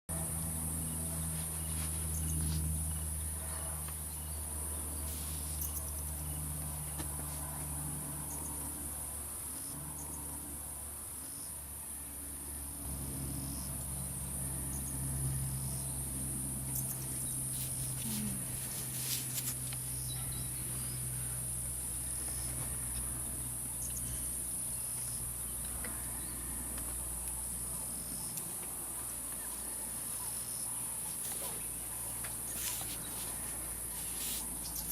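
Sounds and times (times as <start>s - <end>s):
low steady hum: 0.1s - 34.9s.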